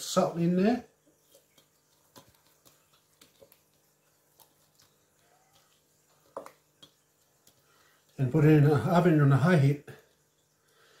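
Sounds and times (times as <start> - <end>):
cream dripping into metal tray: 1.0 - 11.0.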